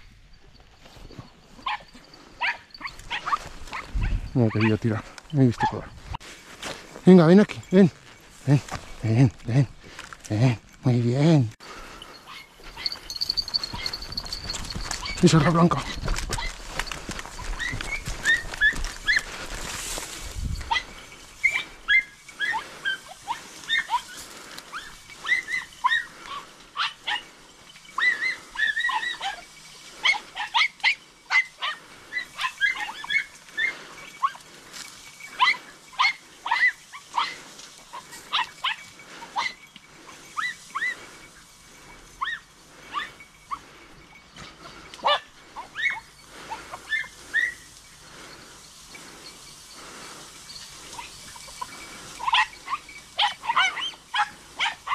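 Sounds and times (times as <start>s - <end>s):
dogs yelping: 0.6s - 6.2s, 11.8s - 54.9s.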